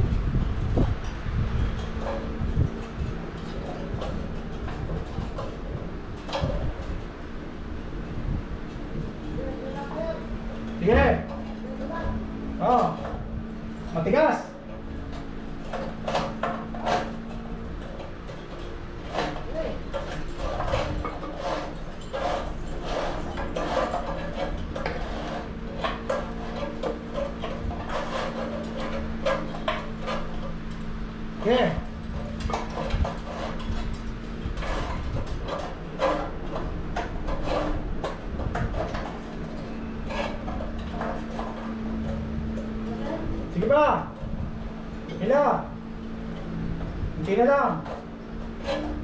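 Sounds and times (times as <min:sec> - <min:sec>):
steady low hum: 0:00.0 - 0:49.0
wire scraping against metal pipe: 0:08.2 - 0:49.0.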